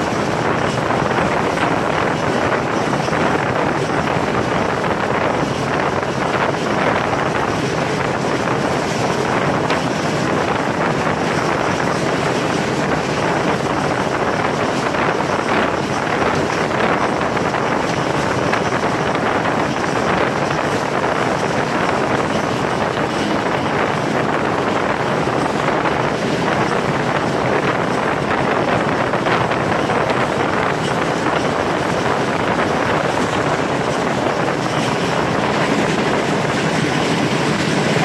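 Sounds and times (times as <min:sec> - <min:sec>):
train running at speed: 0:00.0 - 0:38.0
wind buffeting microphone: 0:00.0 - 0:38.0.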